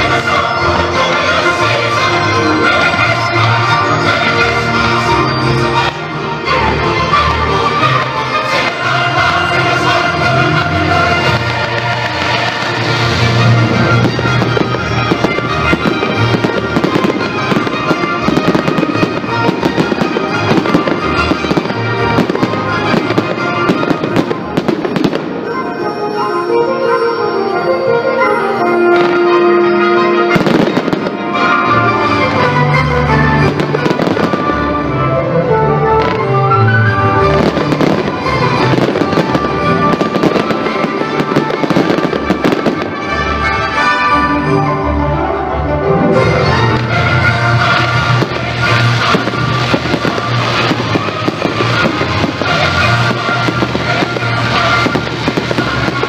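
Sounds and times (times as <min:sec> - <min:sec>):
fireworks bursting with bangs and crackles: 0:00.0 - 0:26.0, 0:28.9 - 0:35.0, 0:36.0 - 0:44.0, 0:46.1 - 0:56.0
music playing: 0:00.0 - 0:56.0.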